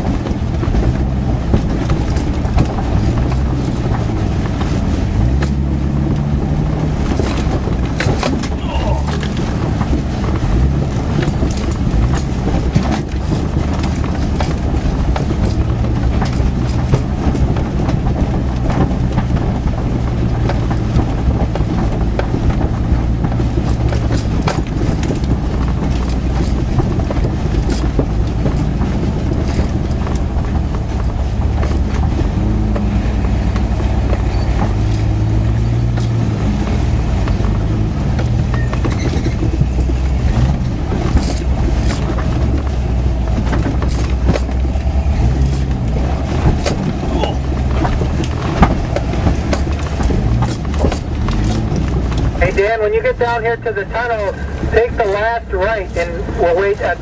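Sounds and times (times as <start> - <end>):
engine running from inside cab: 0.0 - 57.0
rattles and knocks from vehicle body: 0.0 - 57.0.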